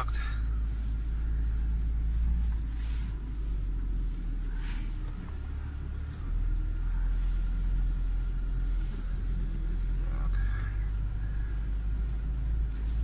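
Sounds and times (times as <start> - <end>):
car engine rumbling under load: 0.0 - 13.0.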